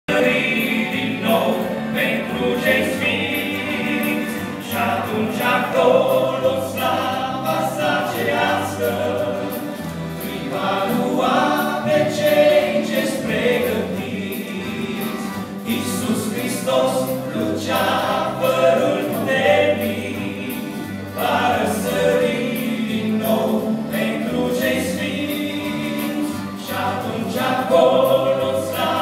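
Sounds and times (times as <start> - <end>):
keyboard: 0.0 - 29.0
accordion: 0.1 - 29.0
bass guitar: 0.1 - 29.0
electric guitar: 0.1 - 29.0
men singing together: 0.1 - 29.0.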